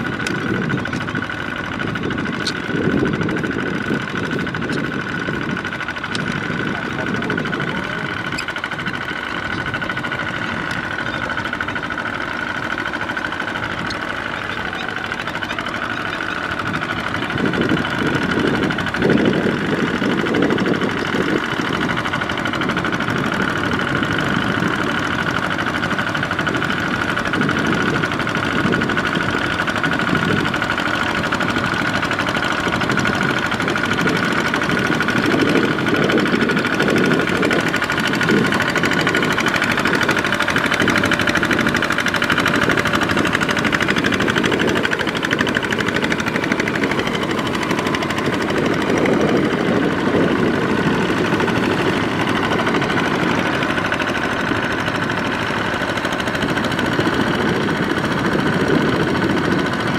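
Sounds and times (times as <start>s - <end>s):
walking tractor diesel engine: 0.0s - 59.9s
wheels dragging through mud: 0.0s - 59.9s.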